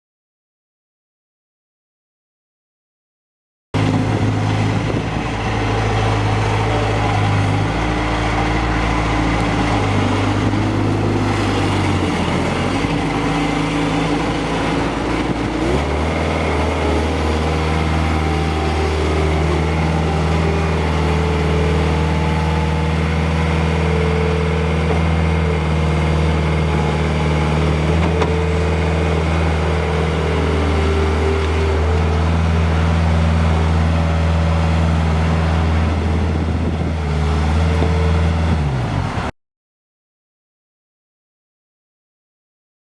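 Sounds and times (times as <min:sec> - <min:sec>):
diesel engine running: 0:03.8 - 0:39.3.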